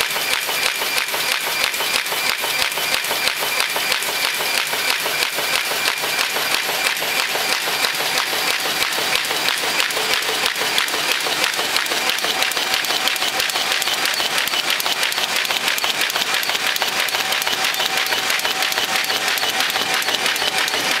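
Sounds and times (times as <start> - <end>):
paper folding machine clatter: 0.0 - 21.0.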